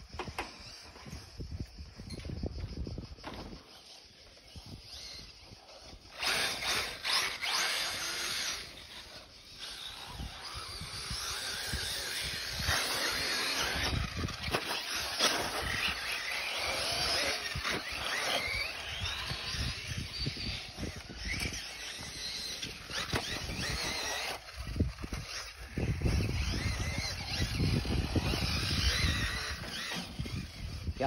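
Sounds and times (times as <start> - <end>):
toy car motor revving: 0.0 - 31.0.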